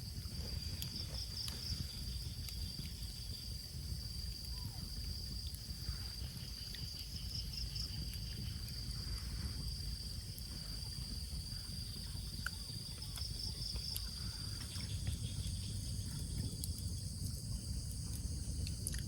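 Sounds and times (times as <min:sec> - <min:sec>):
insects trilling: 0:00.0 - 0:19.0
low rumble: 0:00.0 - 0:19.0.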